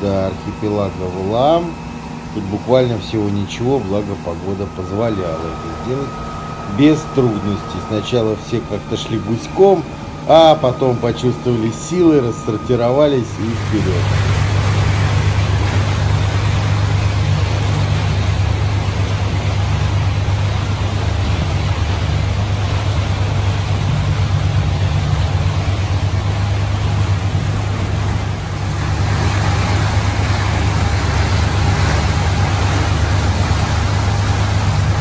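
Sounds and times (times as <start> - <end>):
motorboat engine droning: 0.0 - 35.0
rush of wind and water: 0.0 - 35.0.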